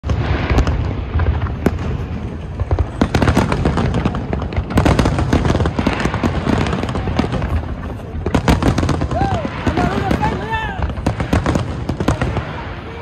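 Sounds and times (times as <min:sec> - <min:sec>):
firework bangs and crackles: 0:00.0 - 0:13.0.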